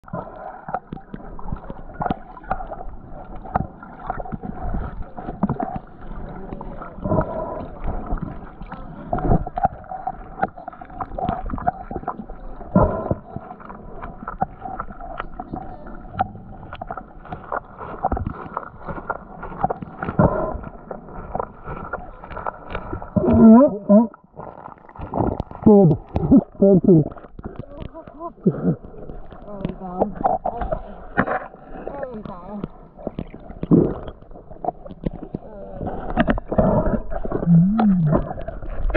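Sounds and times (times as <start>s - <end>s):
water gurgling underwater: 0.0s - 38.9s.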